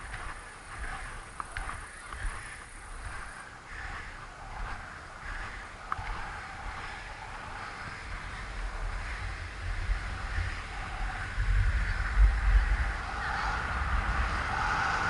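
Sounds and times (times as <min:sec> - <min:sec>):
skate wheels rolling on asphalt: 0:00.0 - 0:15.0
wind buffeting microphone: 0:00.0 - 0:15.0.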